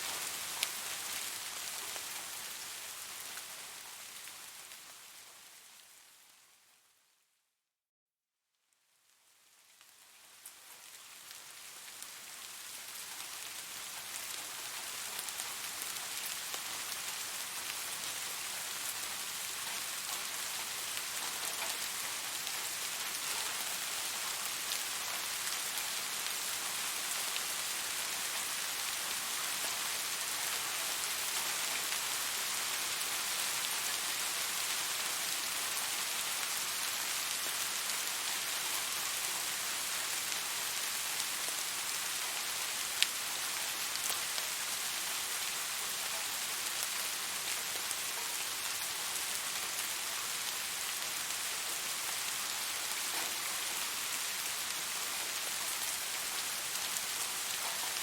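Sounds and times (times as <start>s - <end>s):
steady rainfall: 0.0s - 7.2s, 9.0s - 58.0s.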